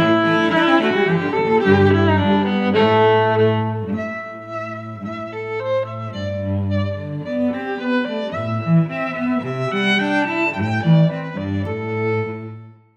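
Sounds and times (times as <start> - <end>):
bowed strings music: 0.0 - 12.9.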